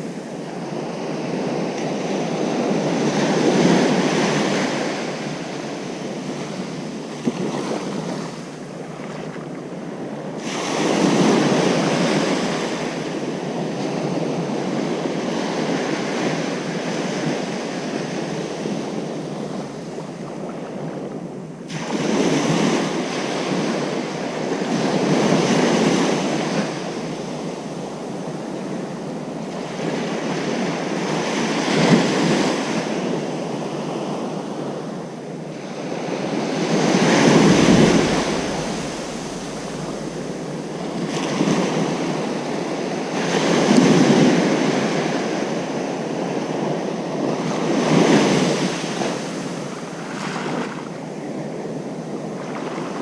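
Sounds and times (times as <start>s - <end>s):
ocean surf breaking on beach: 0.0s - 53.0s.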